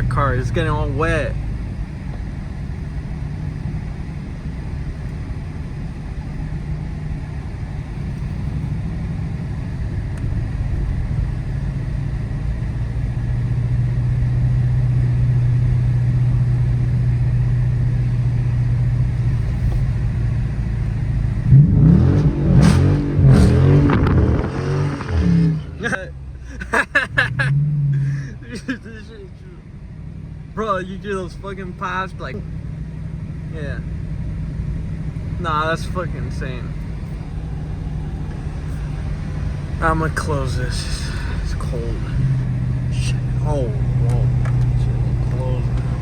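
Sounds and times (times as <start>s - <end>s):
exhaust pops: 0.0s - 26.5s, 33.6s - 46.0s
car engine droning: 0.0s - 46.0s
engine revving: 0.0s - 46.0s.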